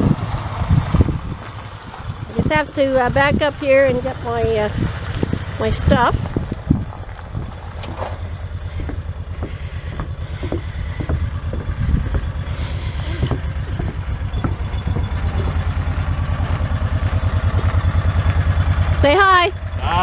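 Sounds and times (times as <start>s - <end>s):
atv engine idling: 0.0s - 20.0s.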